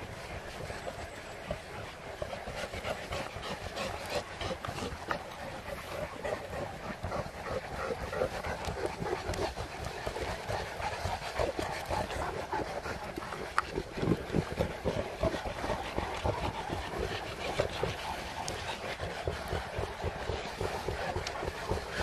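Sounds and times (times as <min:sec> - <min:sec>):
pack of dogs: 0:00.0 - 0:22.0.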